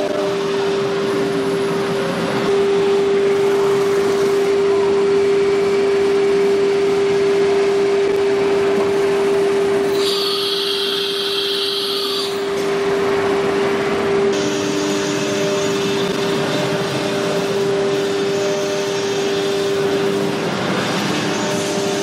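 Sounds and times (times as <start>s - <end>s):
cnc router whine and hiss: 0.0s - 22.0s.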